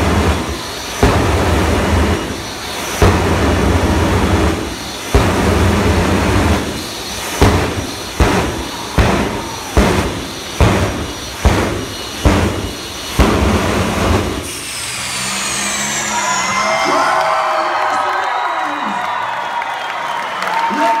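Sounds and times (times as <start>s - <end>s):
turbine whine winding down: 0.0s - 20.1s
jet afterburner bursts: 0.0s - 21.0s.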